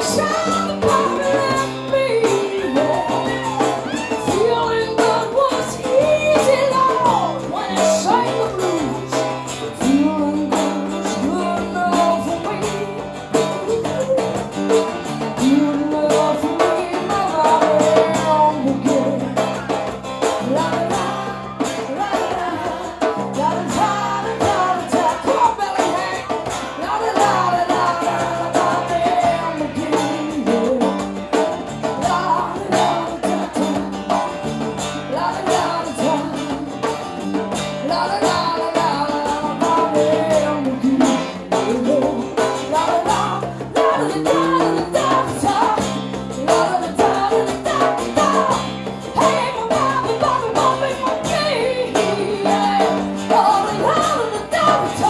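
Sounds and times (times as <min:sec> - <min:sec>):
acoustic guitar: 0:00.0 - 0:55.0
hand drum beat: 0:00.0 - 0:55.0
woman singing: 0:00.0 - 0:55.0.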